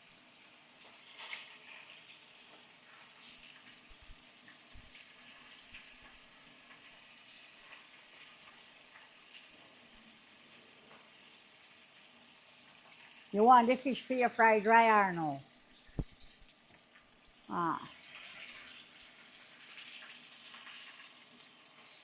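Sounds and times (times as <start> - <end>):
fish sizzling in hot oil: 0.0 - 14.8, 15.5 - 22.0.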